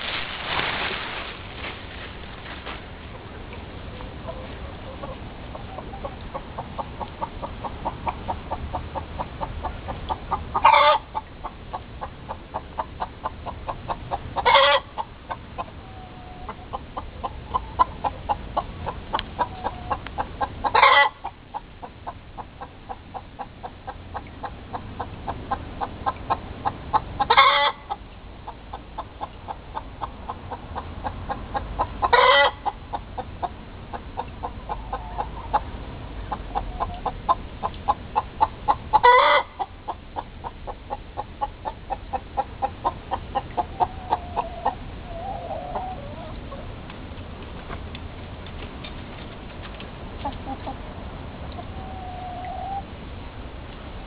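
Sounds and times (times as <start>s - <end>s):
hen clucking and squawking: 3.9s - 46.8s, 50.2s - 53.0s.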